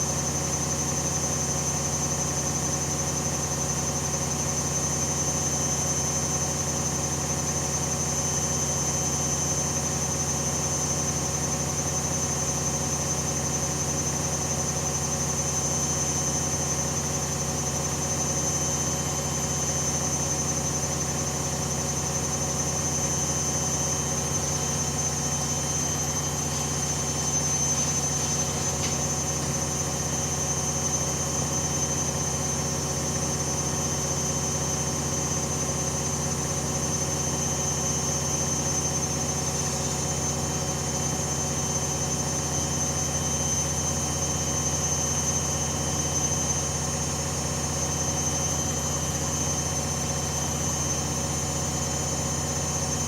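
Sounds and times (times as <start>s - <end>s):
washing machine spinning: 0.1s - 48.0s.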